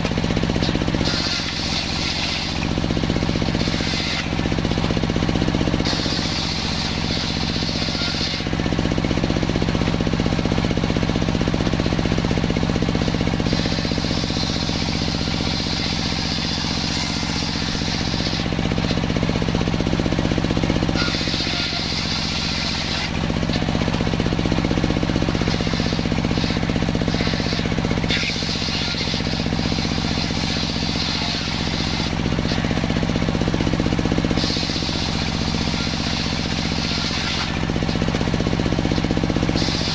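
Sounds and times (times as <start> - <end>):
circular saw droning: 0.0 - 39.9
saw whining through wood: 0.0 - 39.9.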